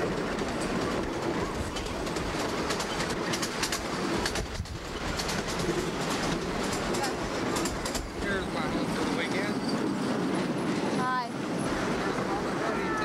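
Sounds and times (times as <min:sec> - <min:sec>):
vehicle rumbling and rattling: 0:00.0 - 0:12.8.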